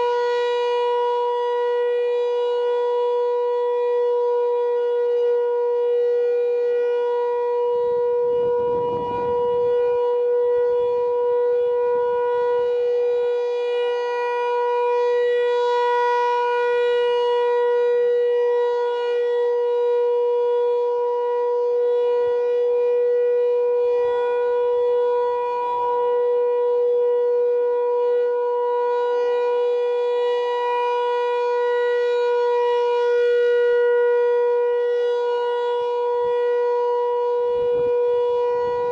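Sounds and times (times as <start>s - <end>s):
civil defense siren: 0.0s - 38.9s.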